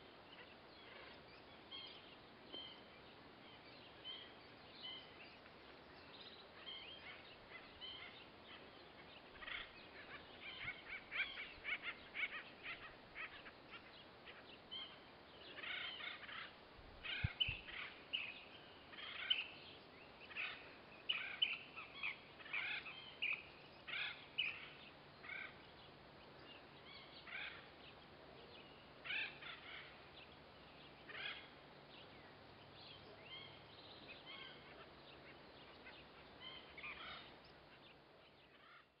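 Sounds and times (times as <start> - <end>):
wild birds calling: 0.0 - 39.0.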